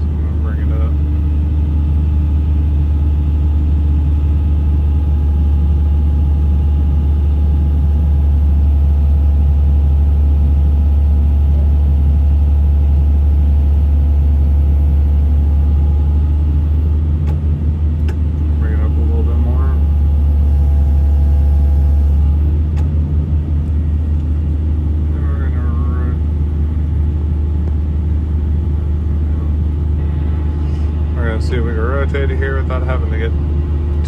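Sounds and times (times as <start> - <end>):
excavator diesel engine droning: 0.0 - 34.0.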